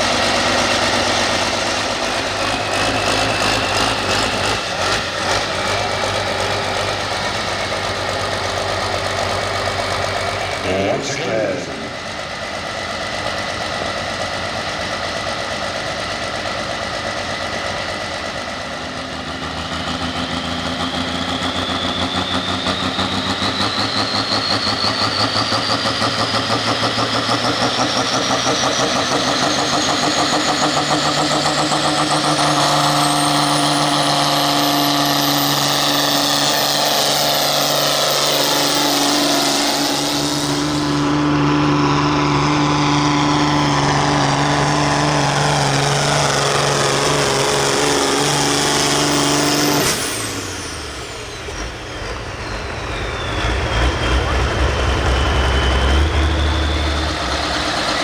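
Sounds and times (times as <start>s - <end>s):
high rising whine: 0.0s - 58.0s
tractor engine running loud: 0.0s - 58.0s.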